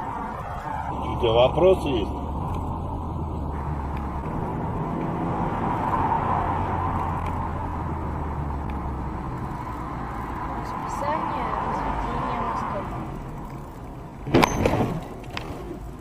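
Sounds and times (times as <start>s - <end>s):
car engine hum: 0.0s - 16.0s
tyre and road noise: 0.0s - 16.0s.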